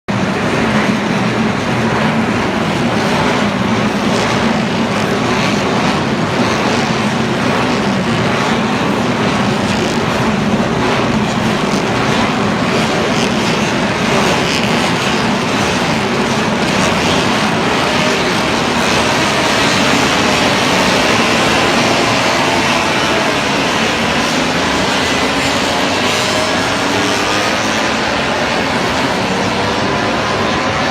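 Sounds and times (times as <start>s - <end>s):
motorcycle engine running: 0.1s - 30.9s.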